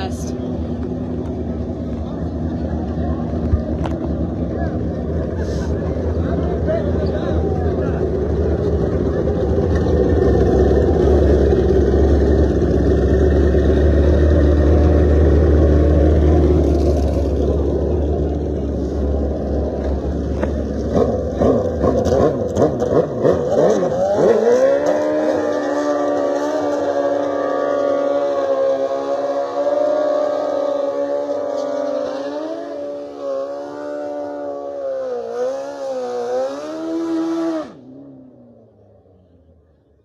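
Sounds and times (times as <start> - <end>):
engine at steady high revs: 0.0 - 39.5
motorcycle engines rumbling: 0.0 - 40.0.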